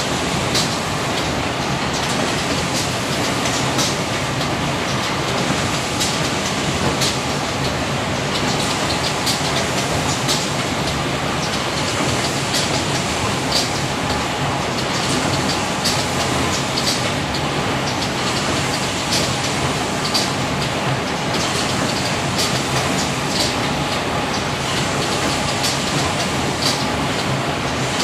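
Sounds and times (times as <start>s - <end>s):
sharp machine clacks: 0.5s - 28.0s.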